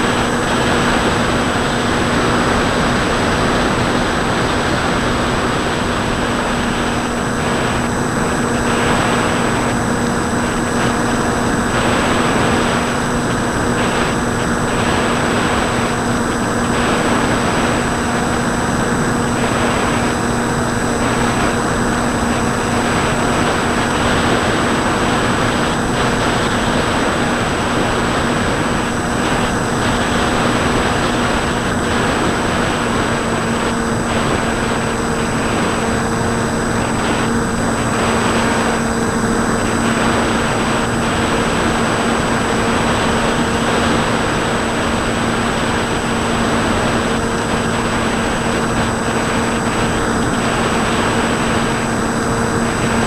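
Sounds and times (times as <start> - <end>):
electric motor propeller hum: 0.0 - 53.0.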